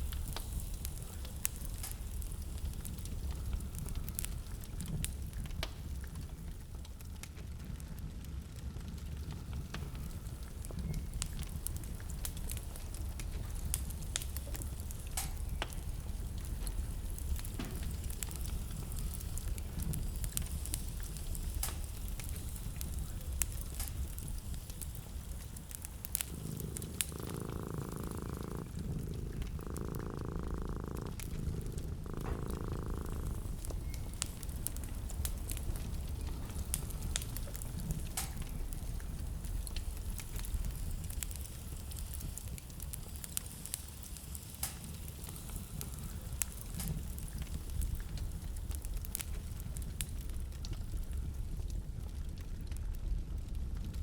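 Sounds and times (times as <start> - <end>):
low steady rumble: 0.0 - 43.6
soft steady sound: 0.0 - 54.0
wood fire crackling and popping: 0.0 - 54.0.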